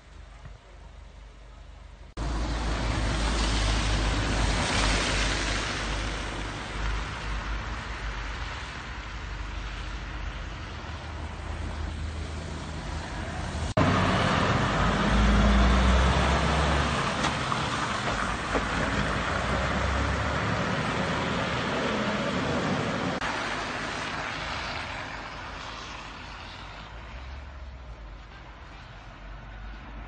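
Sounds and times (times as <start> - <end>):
diesel truck engine rumble: 0.0 - 24.3
cars passing with tyre noise: 0.0 - 30.0.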